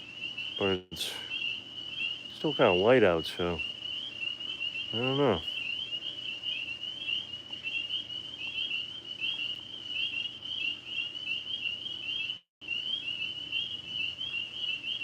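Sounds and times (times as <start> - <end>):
tree frogs trilling: 0.0 - 15.0.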